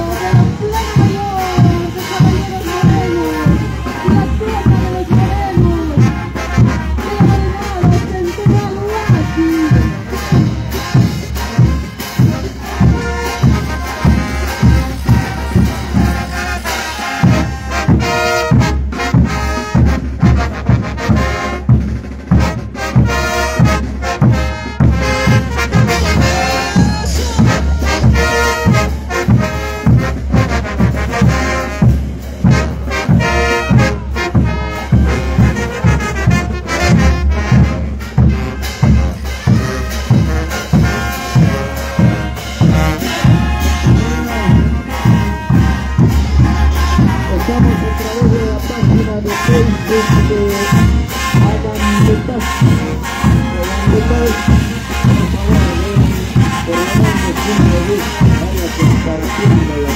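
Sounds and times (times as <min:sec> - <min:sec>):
heavy bass drum beat: 0:00.0 - 0:59.9
trumpets and trombones playing: 0:00.0 - 0:59.9.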